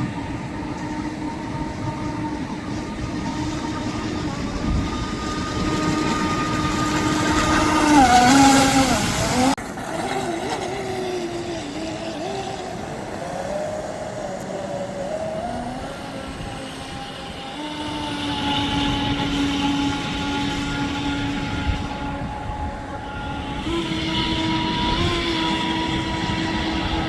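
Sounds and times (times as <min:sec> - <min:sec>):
rc boat motor whining: 0:00.0 - 0:27.0.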